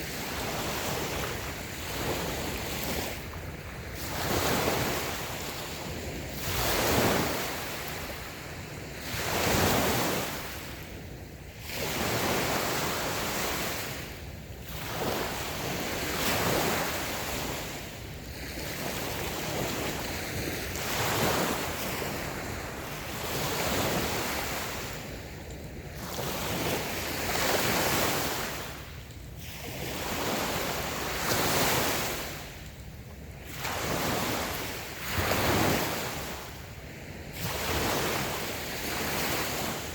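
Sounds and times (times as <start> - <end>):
waves washing on sandy beach: 0.0 - 39.9.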